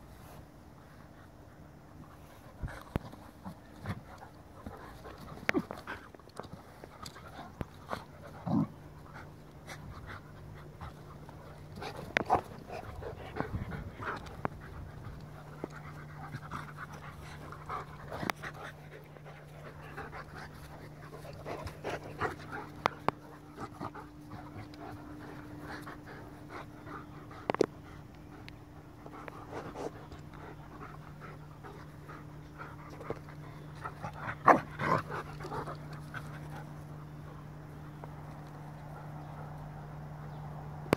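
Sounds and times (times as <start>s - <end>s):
low steady hum: 0.0s - 40.9s
dogs panting: 0.2s - 40.4s.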